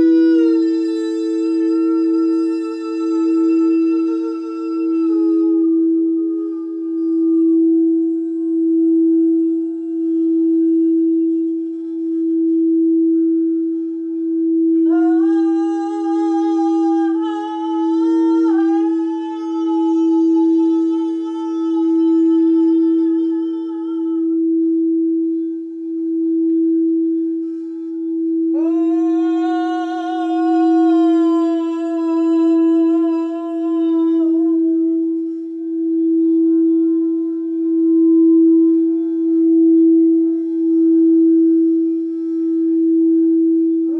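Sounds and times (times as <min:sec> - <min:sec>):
singing bowl sustained tone: 0:00.0 - 0:43.9.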